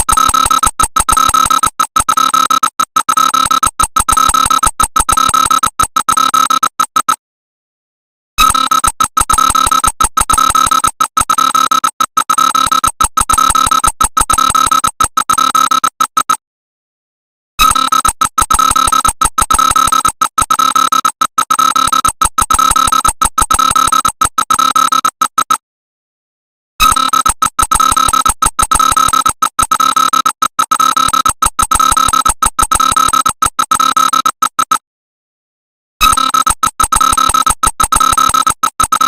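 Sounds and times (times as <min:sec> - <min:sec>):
high buzzy electronic alarm beeps: 0:00.0 - 0:07.2, 0:08.4 - 0:16.4, 0:17.6 - 0:25.6, 0:26.8 - 0:34.8, 0:36.0 - 0:39.0.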